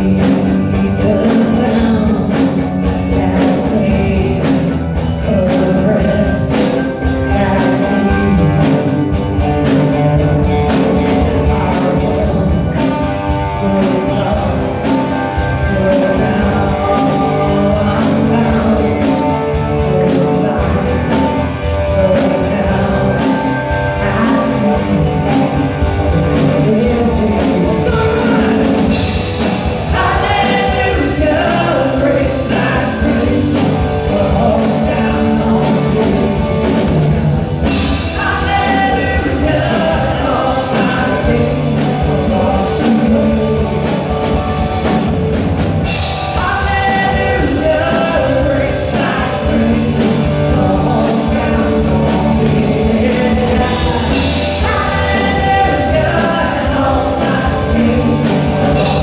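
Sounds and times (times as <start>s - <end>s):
person singing: 0.0s - 45.0s, 45.9s - 59.0s
rock band playing: 0.0s - 59.0s.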